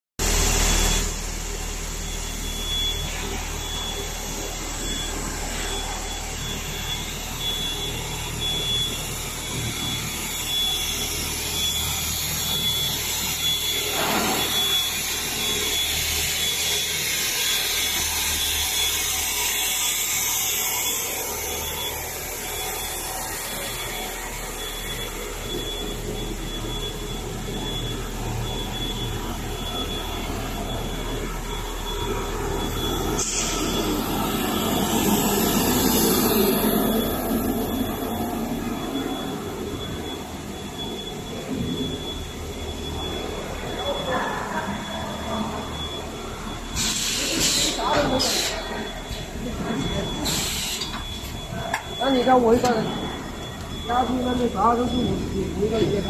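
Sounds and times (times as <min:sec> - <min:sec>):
machinery whirring: 0:00.2 - 0:56.0
thin high whine: 0:00.2 - 0:56.0.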